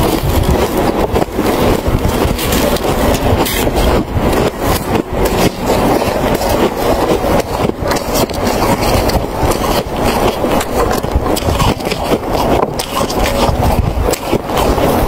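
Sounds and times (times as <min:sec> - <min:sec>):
packed snow being chewed: 0:00.0 - 0:15.0.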